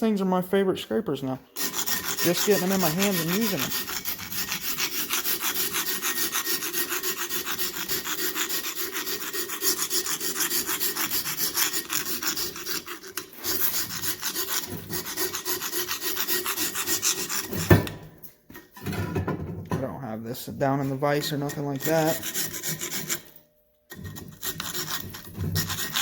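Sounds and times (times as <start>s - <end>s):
hand scraper rasping on metal: 1.6s - 18.0s, 20.8s - 26.0s.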